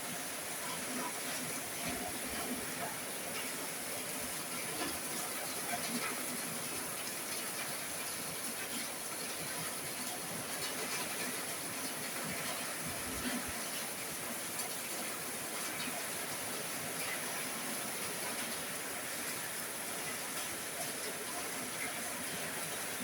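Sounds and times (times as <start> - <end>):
heavy rain on a roof: 0.0 - 23.0.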